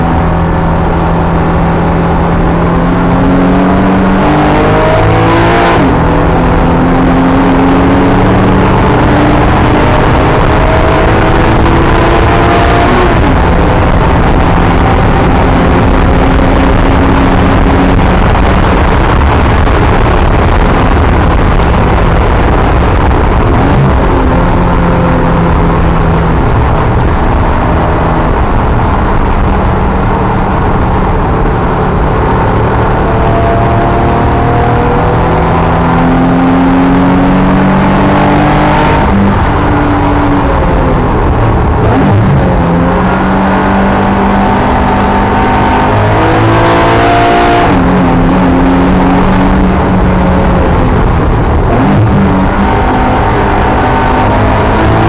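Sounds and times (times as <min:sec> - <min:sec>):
car engine at racing speed: 0:00.0 - 0:55.0
wind and road noise: 0:00.0 - 0:55.0.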